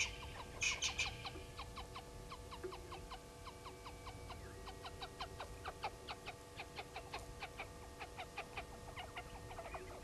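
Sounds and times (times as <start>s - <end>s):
bird calling in rapid chirps: 0.0s - 10.0s
faint steady hum: 0.0s - 10.0s.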